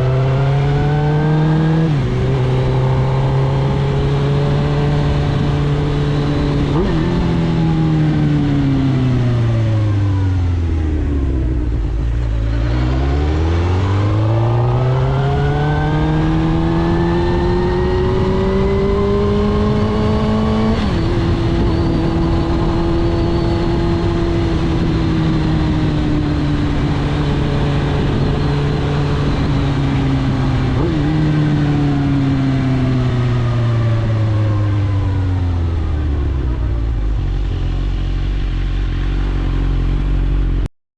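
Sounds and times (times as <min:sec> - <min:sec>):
motorcycle engine revving: 0:00.0 - 0:40.7.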